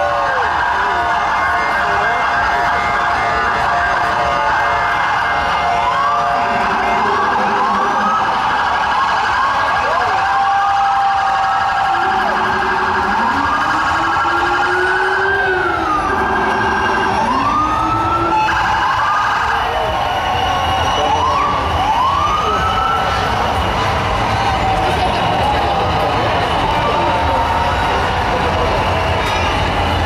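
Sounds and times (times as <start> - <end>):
siren wails rising and falling: 0.0 - 30.0
siren whoops: 0.0 - 30.0.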